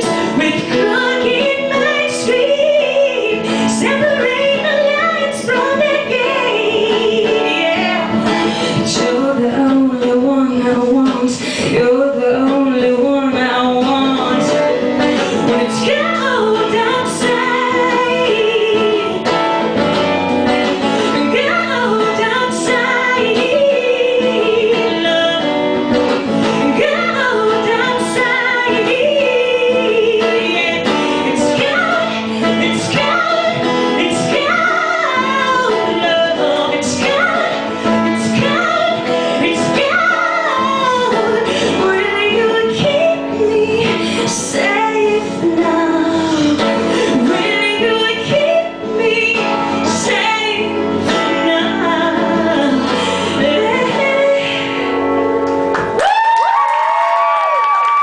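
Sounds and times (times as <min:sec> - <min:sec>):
woman singing: 0:00.0 - 0:55.4
acoustic guitar: 0:00.0 - 0:58.0.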